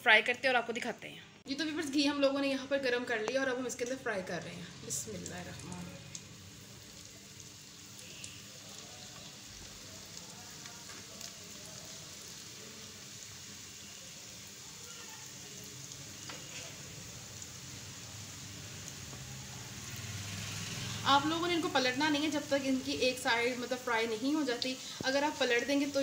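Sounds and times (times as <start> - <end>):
spring rolls sizzling in hot oil: 1.5 - 26.0.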